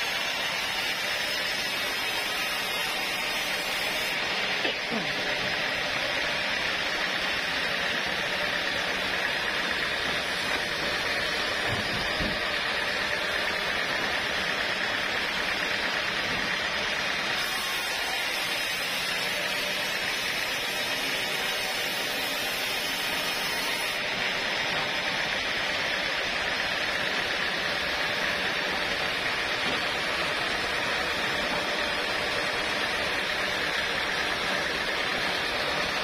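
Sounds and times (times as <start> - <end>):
sawmill machinery drone: 0.0 - 36.0.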